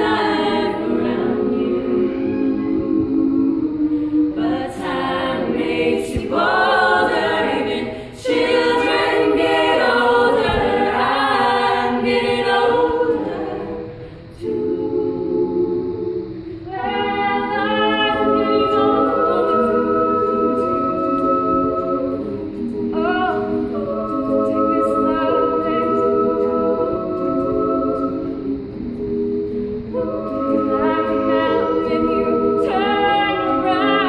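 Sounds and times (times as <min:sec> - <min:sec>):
women's a cappella group singing: 0:00.0 - 0:34.0.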